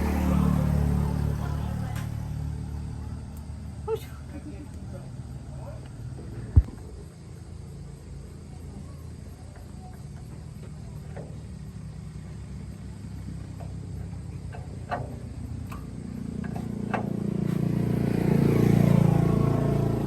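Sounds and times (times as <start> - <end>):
truck engine passing: 0.0 - 20.0.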